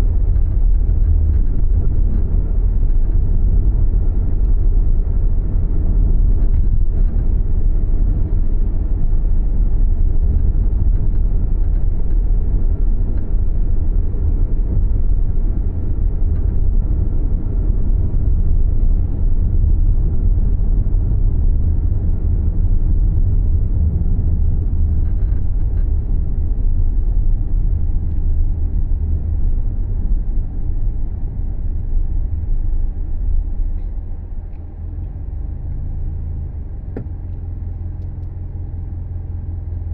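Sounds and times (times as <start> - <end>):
car road rumble from cabin: 0.0 - 39.9.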